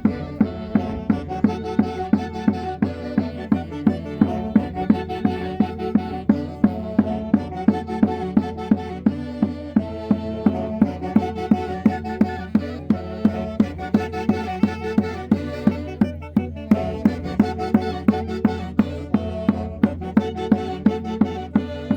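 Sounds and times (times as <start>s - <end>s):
traditional band playing lively tune: 0.0s - 21.9s.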